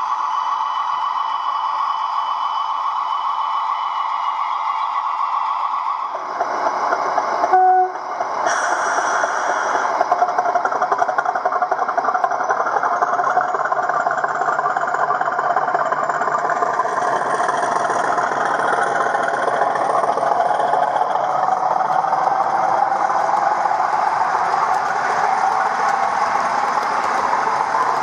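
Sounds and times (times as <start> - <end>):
diesel engine sound from small speaker: 0.0 - 28.0.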